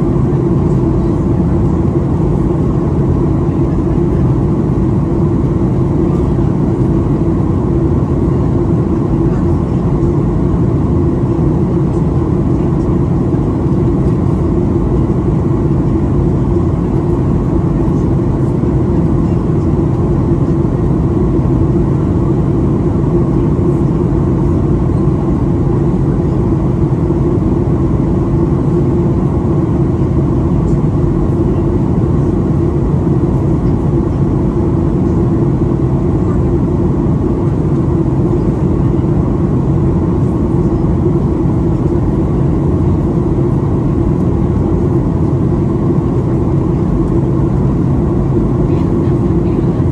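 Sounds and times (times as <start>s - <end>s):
airflow over fuselage: 0.0s - 49.9s
even hum: 0.0s - 49.9s
jet engines rumbling: 0.0s - 49.9s.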